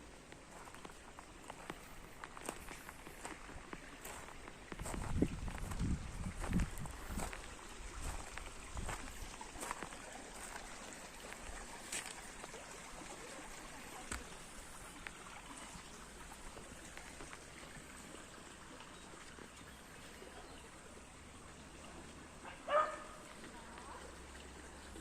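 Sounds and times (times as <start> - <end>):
water trickling: 0.0 - 25.0.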